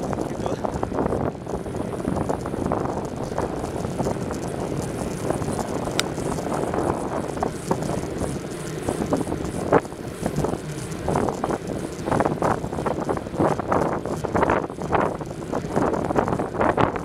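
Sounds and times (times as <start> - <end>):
bicycle knocks and rattles: 0.0 - 17.0
rushing road noise: 0.0 - 17.0
wind buffeting microphone: 0.0 - 17.0.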